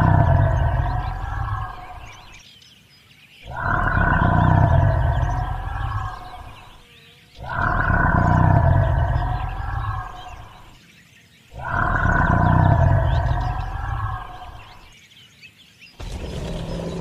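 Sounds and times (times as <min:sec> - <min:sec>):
recorded dinosaur roar: 0:00.0 - 0:02.4, 0:03.4 - 0:06.8, 0:07.4 - 0:10.8, 0:11.5 - 0:14.9, 0:16.0 - 0:17.0.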